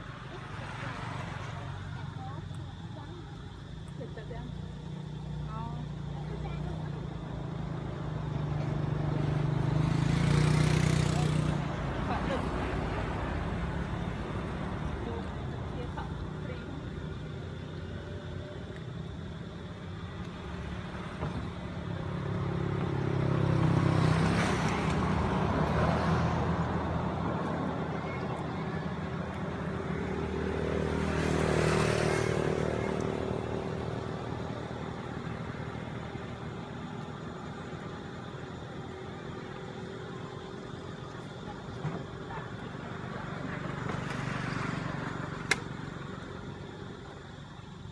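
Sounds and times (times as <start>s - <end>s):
low hum of traffic: 0.0s - 47.9s
vehicles passing on road: 0.0s - 47.9s.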